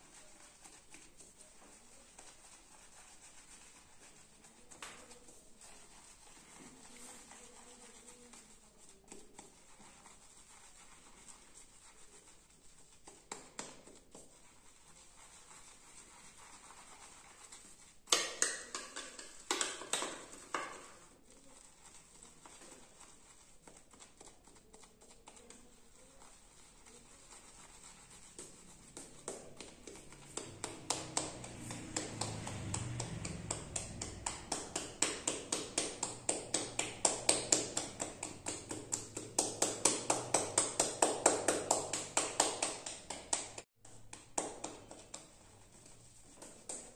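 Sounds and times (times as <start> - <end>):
brush tapping in cup: 0.0 - 46.9
shaving brush lathering on skin: 0.0 - 46.9.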